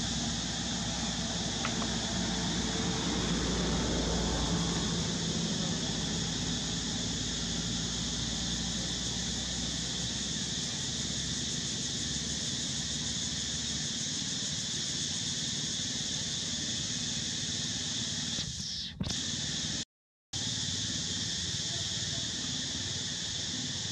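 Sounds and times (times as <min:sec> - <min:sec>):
insects droning: 0:00.0 - 0:19.8, 0:20.4 - 0:23.9.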